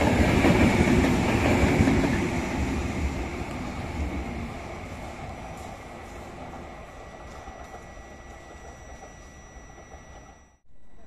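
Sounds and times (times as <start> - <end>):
train wheels rolling on track: 0.0 - 10.5.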